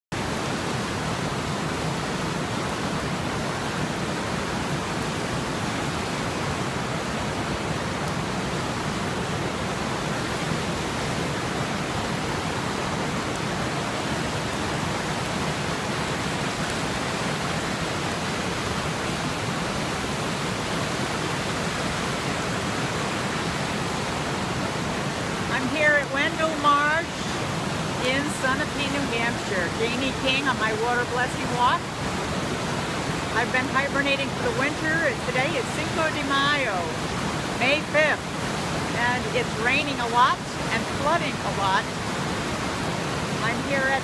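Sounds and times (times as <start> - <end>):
water rushing over spillway: 0.1 - 44.0.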